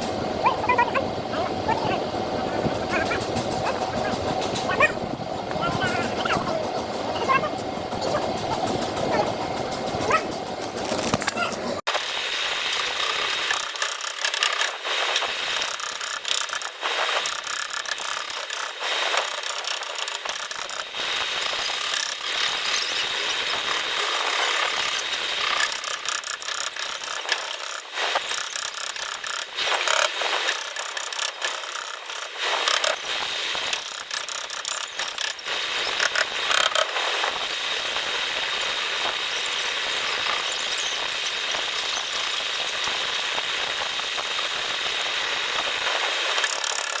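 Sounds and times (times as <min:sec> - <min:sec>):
hand tools clicking and scraping metal: 0:00.0 - 0:11.8, 0:13.0 - 0:47.0.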